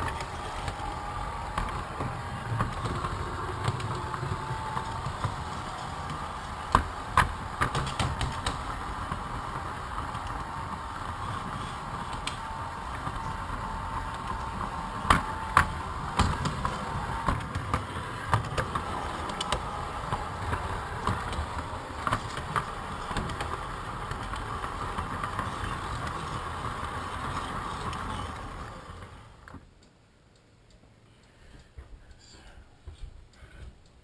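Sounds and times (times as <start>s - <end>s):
model train running hum: 0.0s - 29.5s.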